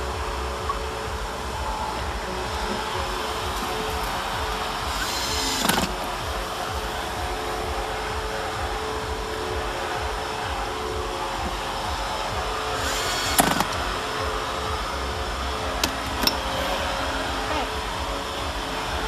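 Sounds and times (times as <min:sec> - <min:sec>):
steady whirring: 0:00.0 - 0:19.0.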